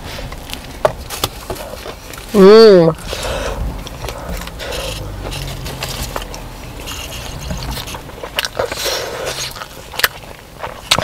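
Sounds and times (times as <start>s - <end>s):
low rumble inside a car: 0.0s - 11.0s
chewing and mouth noises: 0.3s - 11.0s.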